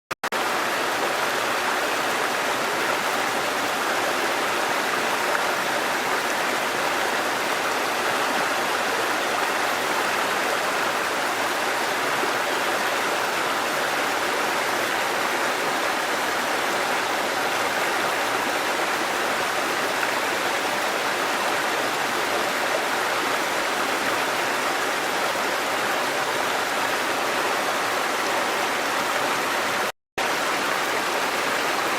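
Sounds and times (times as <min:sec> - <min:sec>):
water rushing: 0:00.3 - 0:31.9.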